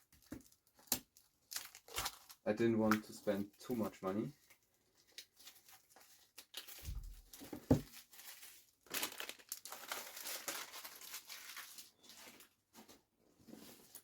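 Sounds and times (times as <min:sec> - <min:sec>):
plastic packaging crinkling: 0:00.0 - 0:12.7.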